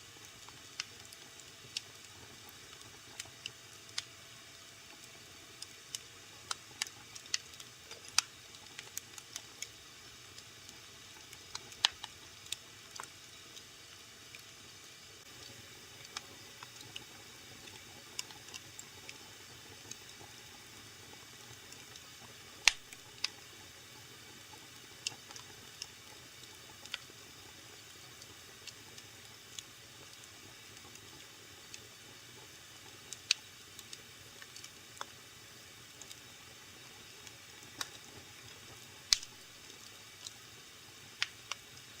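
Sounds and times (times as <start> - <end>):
fire crackling in fireplace: 0.0 - 42.0.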